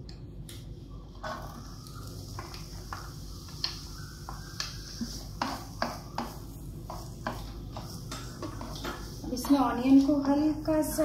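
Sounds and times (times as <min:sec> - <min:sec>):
spatula stirring in pan: 0:01.0 - 0:10.8.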